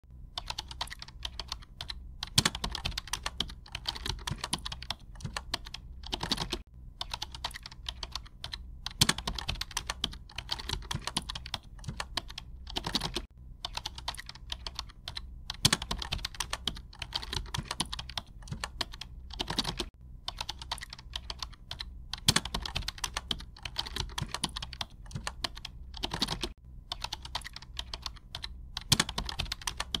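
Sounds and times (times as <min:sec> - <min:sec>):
rapid keyboard typing: 0:00.3 - 0:30.0.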